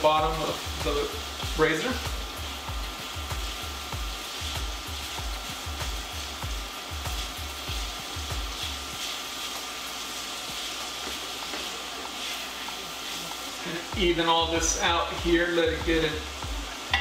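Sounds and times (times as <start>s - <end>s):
spatula stirring: 0.0s - 15.7s
vegetables sizzling in a pan: 0.0s - 17.0s.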